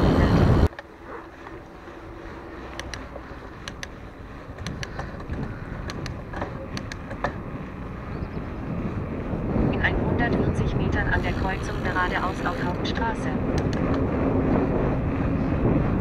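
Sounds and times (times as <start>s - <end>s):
bike clicking and ticking: 0.0s - 9.7s, 10.4s - 16.0s
tyre and wind noise: 0.0s - 16.0s.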